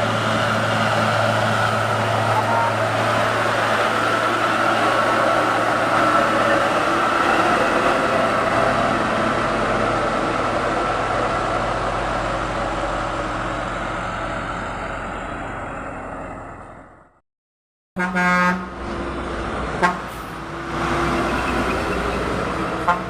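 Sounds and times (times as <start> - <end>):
heavy truck engine under load: 0.0 - 17.2, 18.5 - 23.0.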